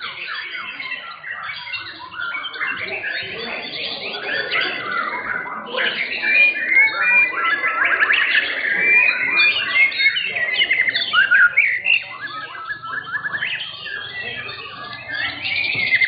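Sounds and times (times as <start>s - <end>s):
songbirds singing whistles and trills: 0.0s - 16.0s.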